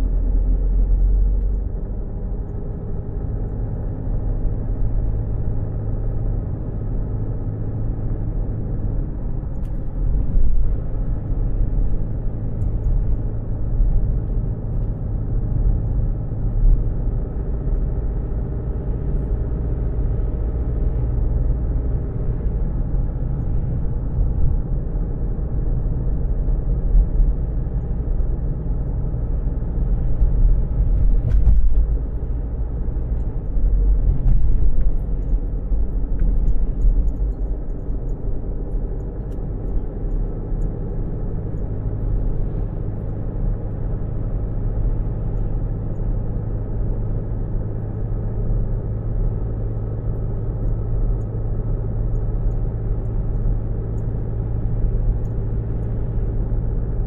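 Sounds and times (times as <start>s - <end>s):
car engine heard from inside: 0.0s - 57.0s.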